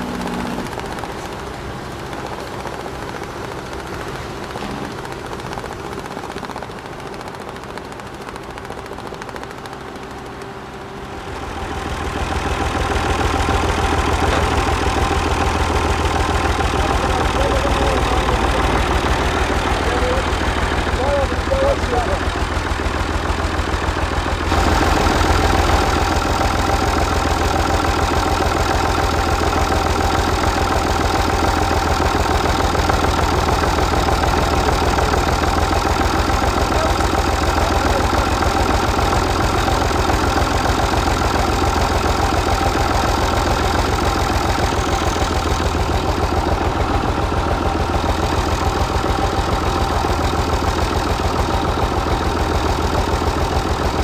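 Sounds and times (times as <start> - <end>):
tractor motor idling: 0.0 - 54.0.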